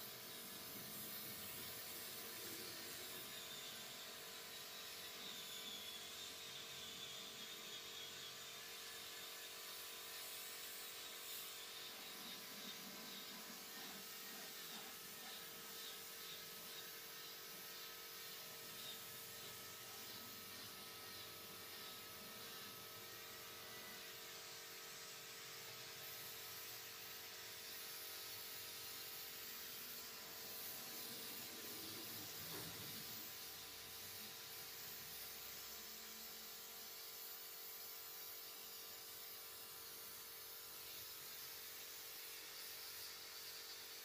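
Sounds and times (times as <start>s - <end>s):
faint hiss of paint spray gun: 0.0s - 44.0s.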